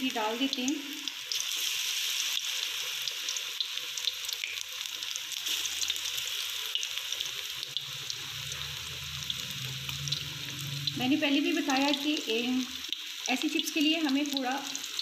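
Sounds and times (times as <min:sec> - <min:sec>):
crackles and pops of frying: 0:00.0 - 0:15.0
potato slices deep-frying in oil: 0:00.0 - 0:15.0.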